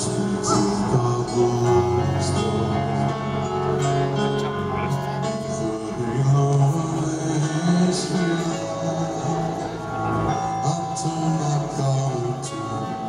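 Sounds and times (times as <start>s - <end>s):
man singing: 0.0s - 4.3s, 4.9s - 13.0s
rock ballad through concert speakers: 0.0s - 13.0s.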